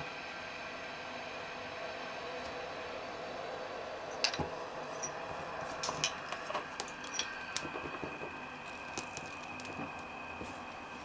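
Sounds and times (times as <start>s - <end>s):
stove burning with a hiss: 0.0s - 11.0s.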